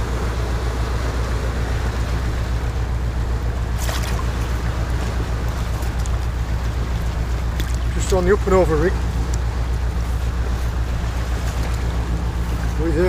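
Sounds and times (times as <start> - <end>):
sea washing over rocks: 0.0 - 13.0.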